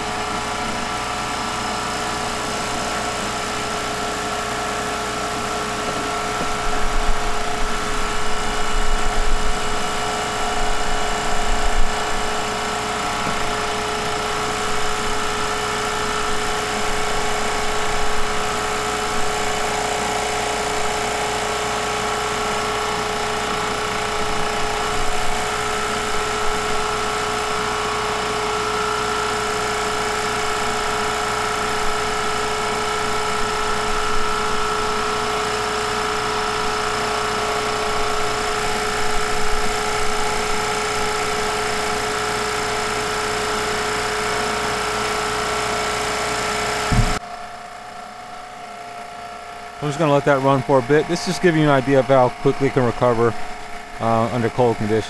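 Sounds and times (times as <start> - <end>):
machine humming and whining: 0.0 - 55.0.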